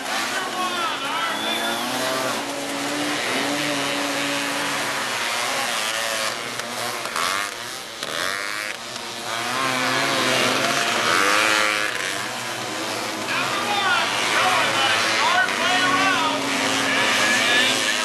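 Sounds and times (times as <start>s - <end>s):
racing buggy engines revving: 0.0s - 18.0s.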